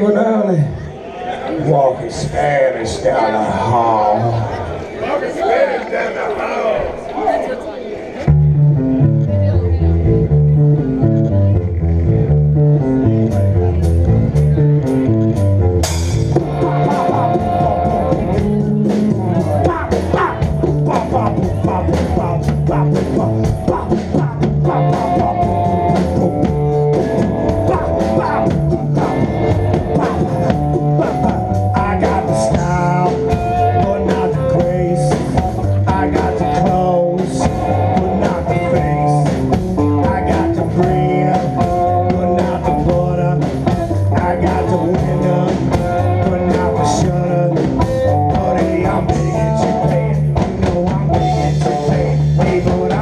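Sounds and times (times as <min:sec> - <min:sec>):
electric guitar lead: 0:08.2 - 0:53.0
live blues-rock band playing: 0:08.3 - 0:53.0.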